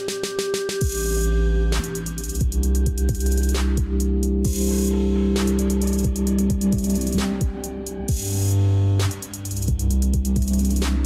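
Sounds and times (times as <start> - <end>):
electronic background music: 0.0 - 11.0
steady drum beat: 0.0 - 11.0
held bass: 0.8 - 11.0.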